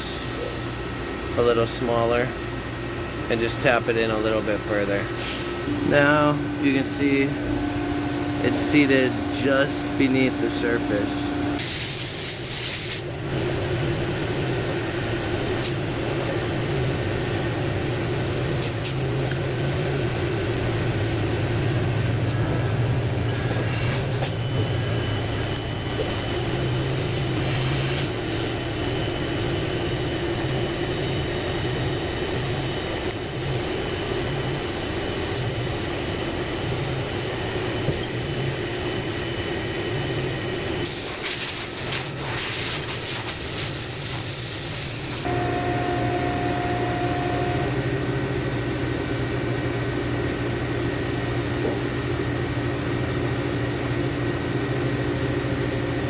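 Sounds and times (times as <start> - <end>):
mechanical hum with hiss: 0.0 - 56.0.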